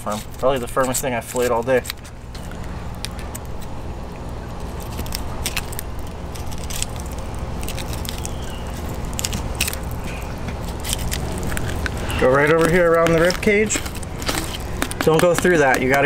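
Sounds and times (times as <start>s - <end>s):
steady low hum: 0.0s - 16.0s
crackling clicks: 0.3s - 16.0s.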